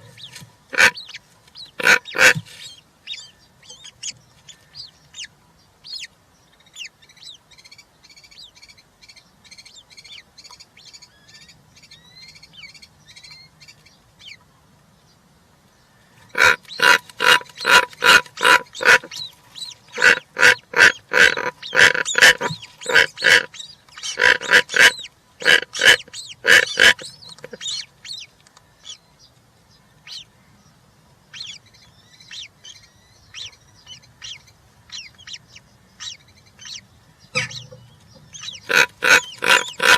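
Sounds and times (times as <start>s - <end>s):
birds giving harsh rasping calls: 0.0s - 13.5s, 16.2s - 29.0s, 31.3s - 39.9s
small birds chirping: 0.0s - 39.9s.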